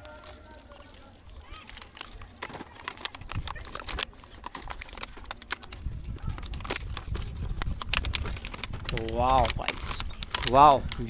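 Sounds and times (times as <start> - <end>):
cardboard and plastic packaging handled: 0.0 - 11.0
clicks taps and crinkles: 0.0 - 11.0.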